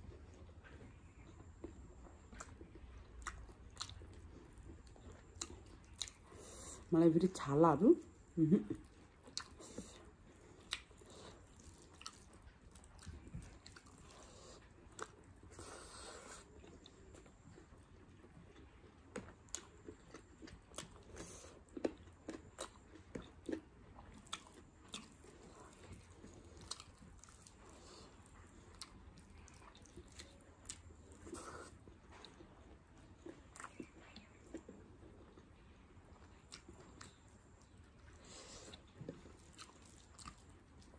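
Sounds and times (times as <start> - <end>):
person chewing and biting: 1.6 - 6.7, 9.1 - 32.5, 33.2 - 35.4, 36.1 - 40.9.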